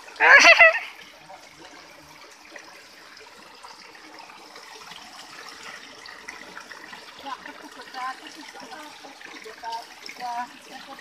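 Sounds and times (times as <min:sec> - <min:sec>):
water trickling onto stone grate: 0:00.0 - 0:11.0.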